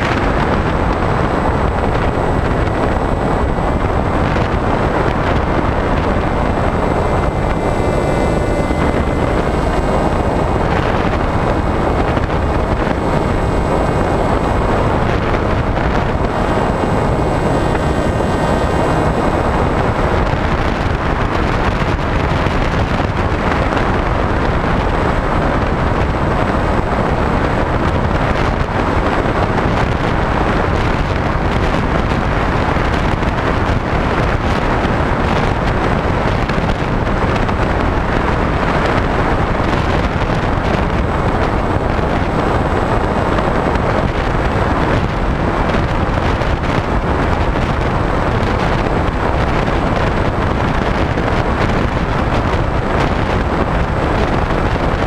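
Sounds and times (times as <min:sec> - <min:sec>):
electric motor and propeller whining: 0:00.0 - 0:55.0
wind rushing over microphone: 0:00.0 - 0:55.0.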